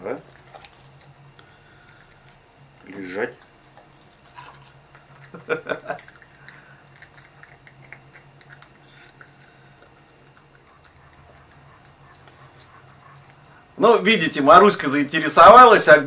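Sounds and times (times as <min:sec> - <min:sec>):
dog crunching dry kibble: 0:00.2 - 0:13.5.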